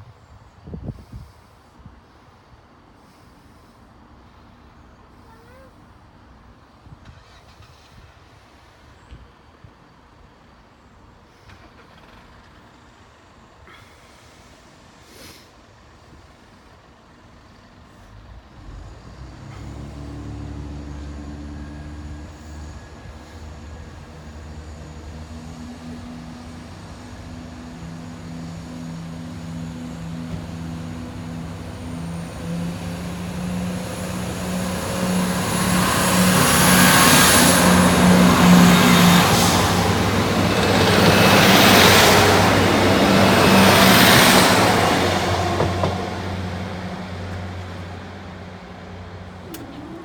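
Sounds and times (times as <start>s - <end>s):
diesel train passing: 0.0s - 50.0s
train wheel and engine rush: 5.1s - 9.6s, 10.2s - 13.7s, 15.6s - 50.0s.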